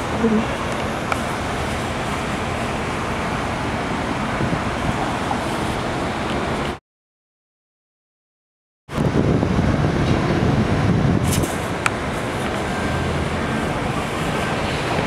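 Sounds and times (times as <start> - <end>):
city traffic roar: 0.0 - 6.8, 8.9 - 15.0.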